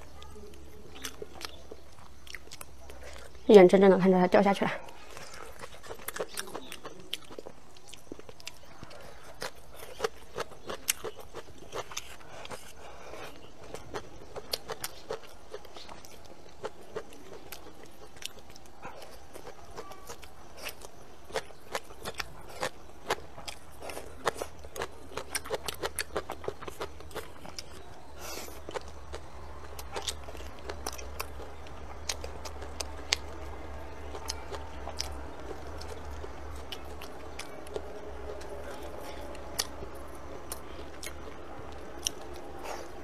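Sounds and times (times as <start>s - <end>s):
person chewing food: 0.0s - 3.4s, 4.8s - 43.0s.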